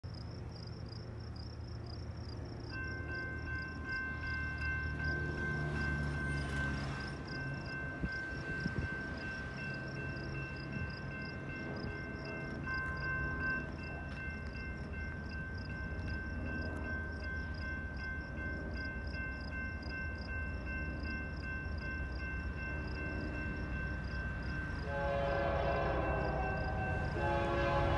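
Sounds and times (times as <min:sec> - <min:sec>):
distant diesel locomotive rumble: 0:00.0 - 0:27.9
crossing bell ringing: 0:02.6 - 0:27.9.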